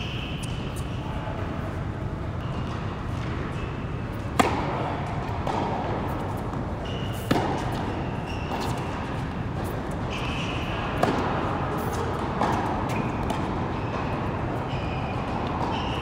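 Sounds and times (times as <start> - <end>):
steady background hum: 0.0 - 16.0
tennis racket hitting ball: 2.6 - 16.0.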